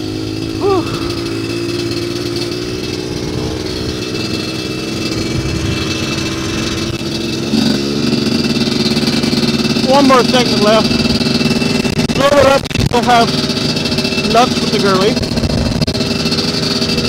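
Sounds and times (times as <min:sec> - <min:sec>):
dirt bike engine running: 0:00.0 - 0:17.0
wind: 0:00.0 - 0:17.0.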